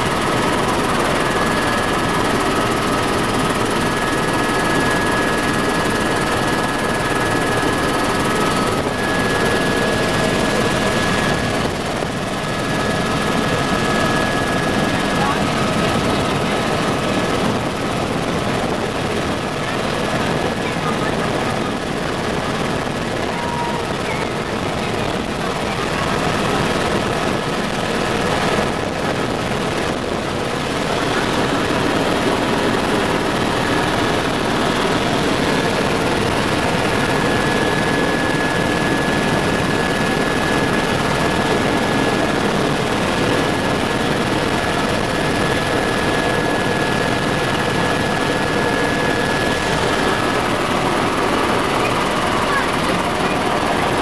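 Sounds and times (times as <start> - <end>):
helicopter rotor and engine noise: 0.0 - 54.0.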